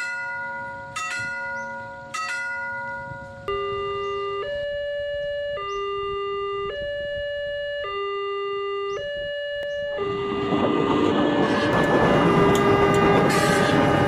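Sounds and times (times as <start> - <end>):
two-tone siren: 0.6 - 14.0.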